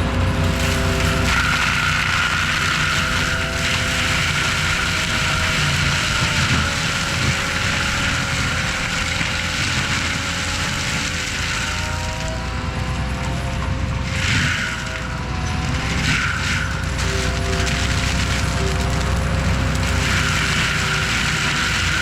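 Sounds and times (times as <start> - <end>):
forestry mulcher machine drone: 0.0 - 22.0.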